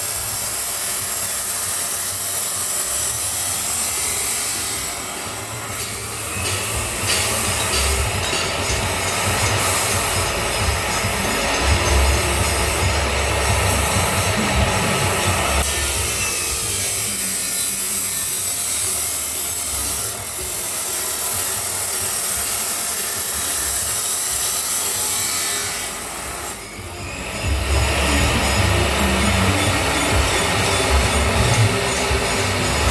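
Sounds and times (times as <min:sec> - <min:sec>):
angle grinder cutting steel pipe: 0:00.0 - 0:32.9.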